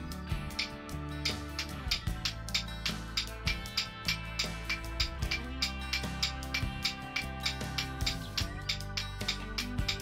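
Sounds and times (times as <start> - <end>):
plucked string instrument over beat: 0.0 - 10.0.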